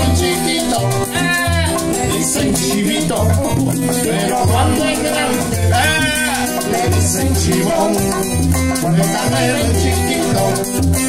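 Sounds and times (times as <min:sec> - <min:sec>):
bongos: 0:00.0 - 0:11.0
maracas shaking: 0:00.0 - 0:11.0
strummed acoustic guitar: 0:00.0 - 0:11.0.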